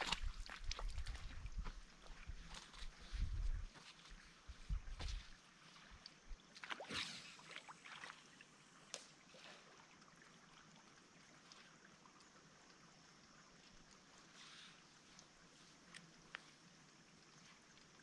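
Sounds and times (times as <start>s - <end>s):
faint hiss of water: 0.0s - 18.0s.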